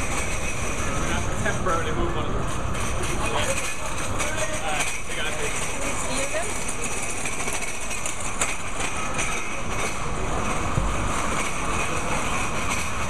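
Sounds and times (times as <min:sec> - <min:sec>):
street noise rumble: 0:00.0 - 0:13.0.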